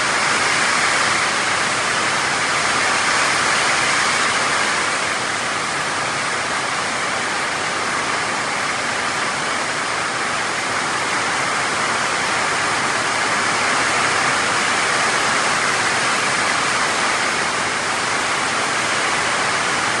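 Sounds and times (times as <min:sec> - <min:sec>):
heavy rain on leaves: 0:00.0 - 0:20.0.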